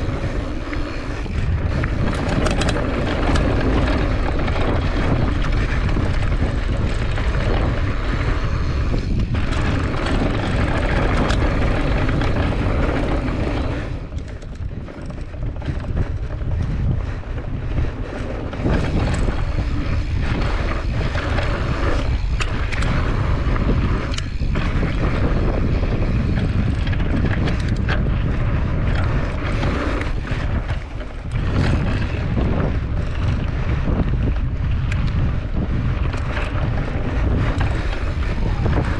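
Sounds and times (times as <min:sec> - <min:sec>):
bike rattling over stones: 0:00.0 - 0:38.9
wind buffeting microphone: 0:00.0 - 0:38.9.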